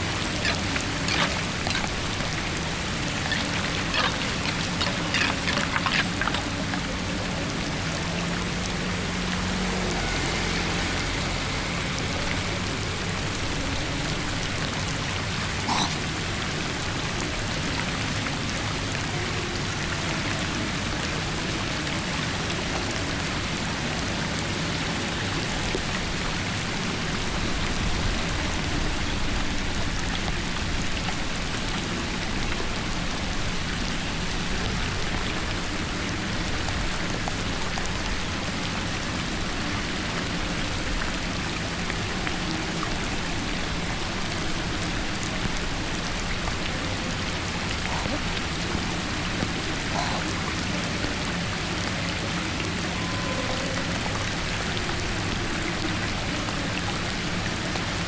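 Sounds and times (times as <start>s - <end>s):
water rushing and splashing: 0.0s - 58.0s.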